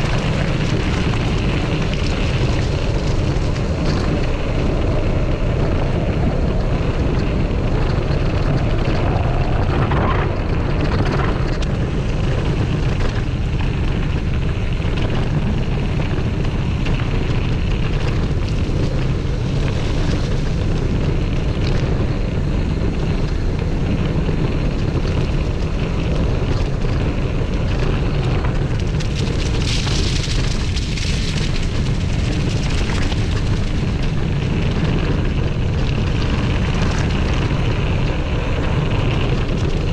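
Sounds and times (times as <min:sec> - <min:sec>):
bike tyres on gravel: 0:00.0 - 0:39.9
wind buffeting microphone: 0:00.0 - 0:39.9.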